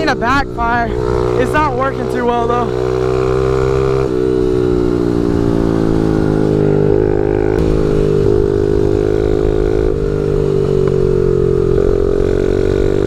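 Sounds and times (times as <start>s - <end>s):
small motorbike engine revving: 0.0s - 13.0s.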